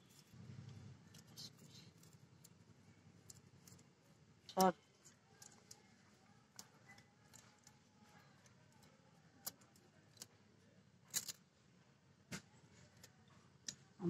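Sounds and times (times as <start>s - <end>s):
faint clicks and rustles: 0.0s - 11.6s.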